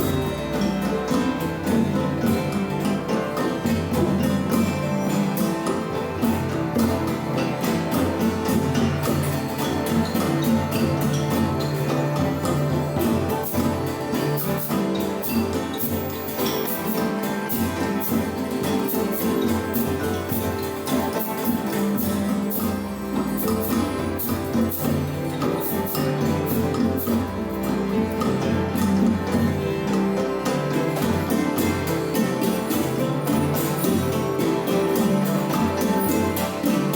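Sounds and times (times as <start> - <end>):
plucked strings: 0.0 - 36.9.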